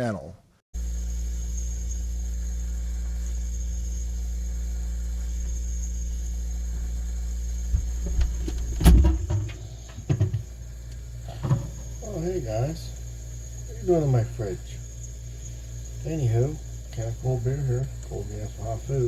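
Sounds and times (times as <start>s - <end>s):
steady low hum: 0.7s - 19.0s.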